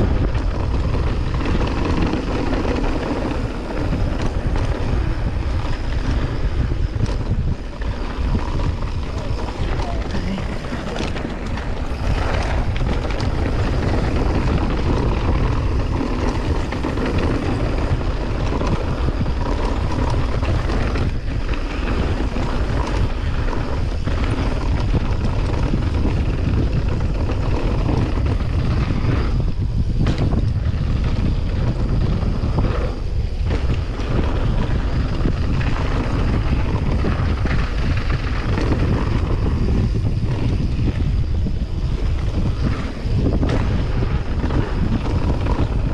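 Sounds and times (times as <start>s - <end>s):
bike rattles and knocks: 0.0s - 45.9s
tyres rumbling on gravel: 0.0s - 45.9s
wind buffeting microphone: 0.0s - 45.9s.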